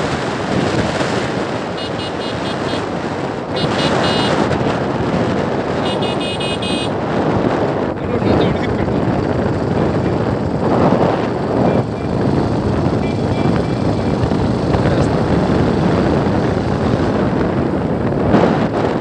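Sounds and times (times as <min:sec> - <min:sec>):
moving vehicle road noise: 0:00.0 - 0:19.0
wind rushing over microphone: 0:00.0 - 0:19.0.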